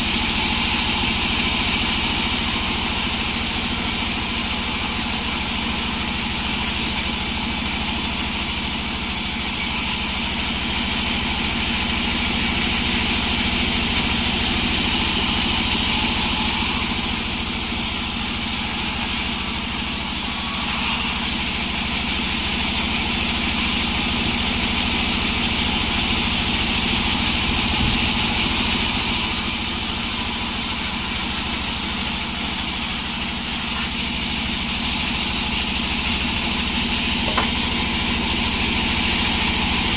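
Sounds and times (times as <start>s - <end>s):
sawmill machine noise: 0.0s - 39.9s.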